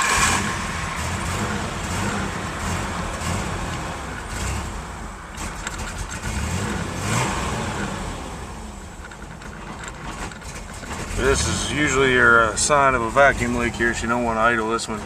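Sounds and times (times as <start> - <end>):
engine running roughly: 0.0 - 15.0.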